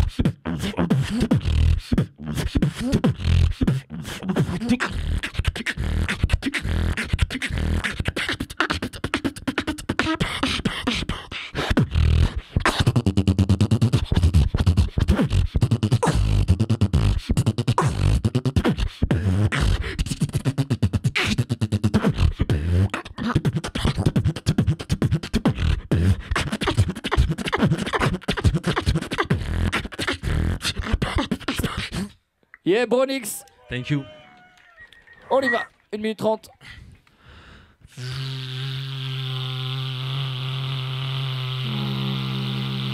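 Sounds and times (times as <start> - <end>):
person beatboxing: 0.0 - 32.2, 37.9 - 42.9.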